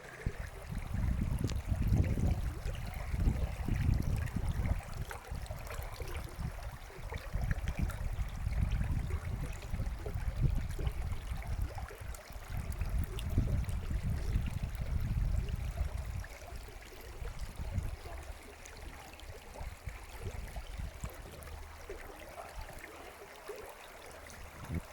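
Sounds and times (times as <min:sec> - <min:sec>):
stream water trickling: 0:00.0 - 0:24.9.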